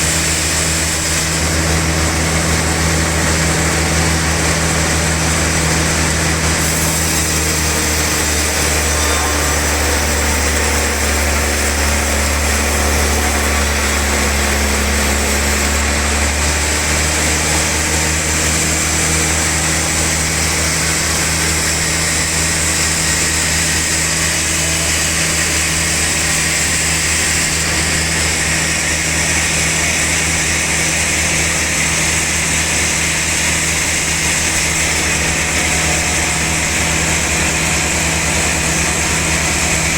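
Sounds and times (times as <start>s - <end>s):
bandsaw machinery humming: 0.0s - 39.9s.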